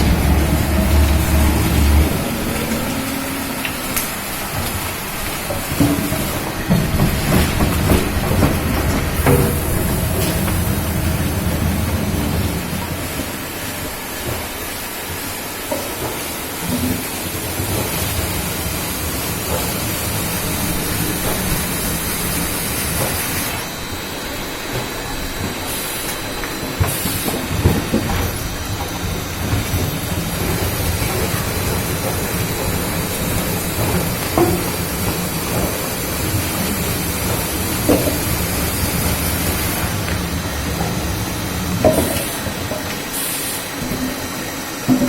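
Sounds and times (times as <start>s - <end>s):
wood-shaving machine running: 0.0s - 14.5s, 17.2s - 43.2s.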